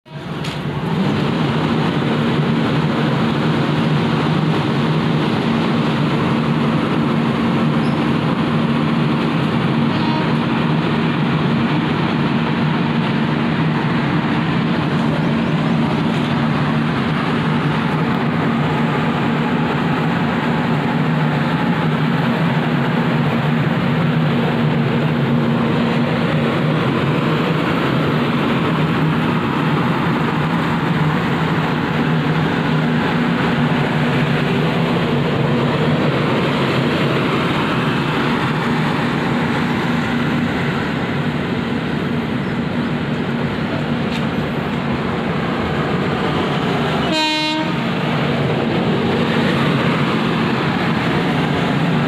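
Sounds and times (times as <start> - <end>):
train rumbling on rails: 0.1 - 52.0.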